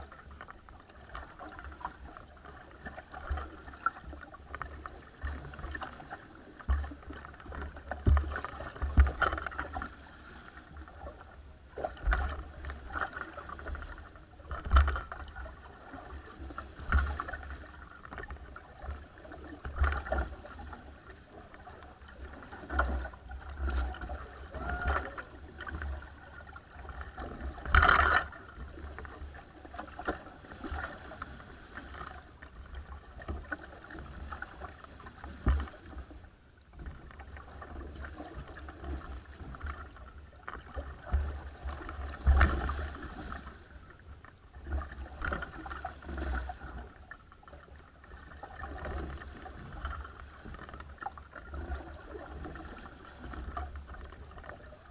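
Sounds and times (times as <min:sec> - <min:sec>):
waves splashing against boat hull: 0:00.0 - 0:54.9.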